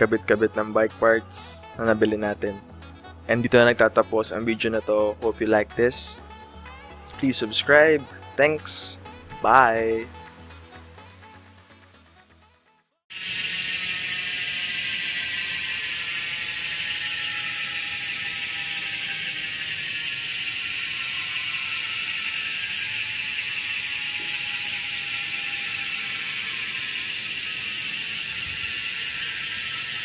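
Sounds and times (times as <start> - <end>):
bicycle freehub ratcheting whir: 0.0 - 11.8, 13.1 - 30.0.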